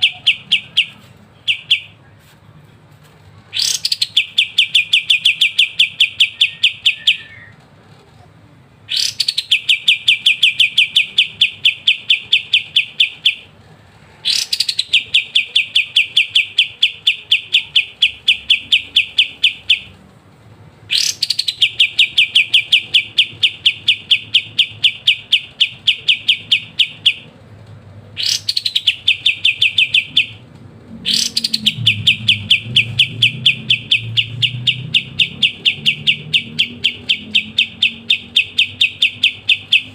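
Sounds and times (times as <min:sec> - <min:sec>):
songbird trilling: 0:00.0 - 0:02.0, 0:03.5 - 0:07.5, 0:08.9 - 0:13.5, 0:14.2 - 0:19.9, 0:20.9 - 0:27.3, 0:28.2 - 0:30.4, 0:31.0 - 0:39.9.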